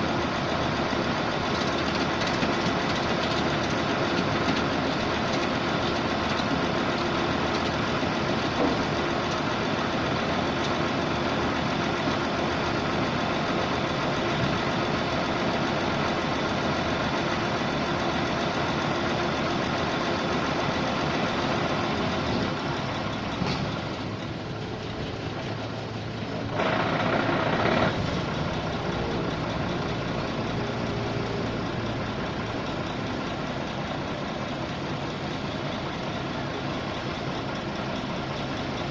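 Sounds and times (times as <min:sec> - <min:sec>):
air compressor engine running: 0:00.0 - 0:38.9.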